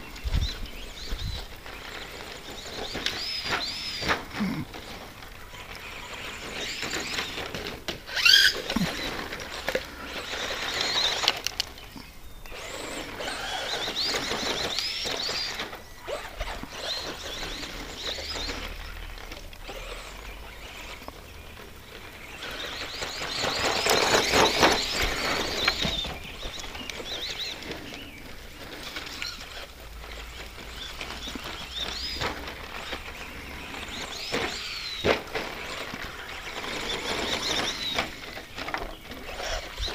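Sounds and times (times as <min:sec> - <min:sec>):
tires scrabbling on dirt: 0:00.0 - 0:39.9
electric motor whine: 0:00.2 - 0:39.9.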